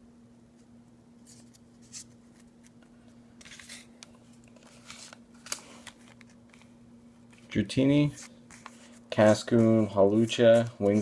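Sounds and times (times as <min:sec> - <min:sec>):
low electrical hum: 0:00.0 - 0:11.0
cards being handled: 0:01.2 - 0:11.0.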